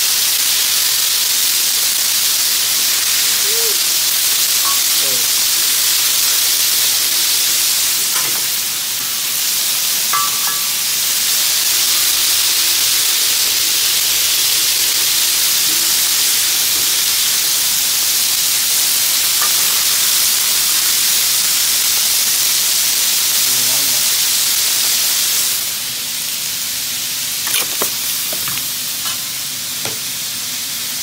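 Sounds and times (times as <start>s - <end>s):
fish sizzling on a griddle: 0.0s - 31.0s.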